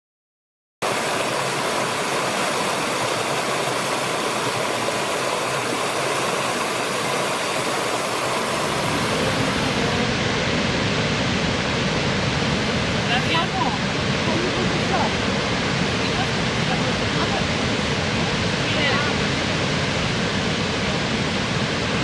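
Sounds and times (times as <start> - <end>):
rushing water: 0.8 - 22.0.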